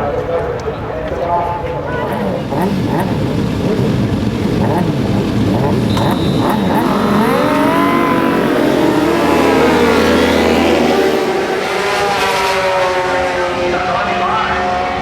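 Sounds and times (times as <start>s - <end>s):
motorcycle engine revving: 1.8s - 15.0s.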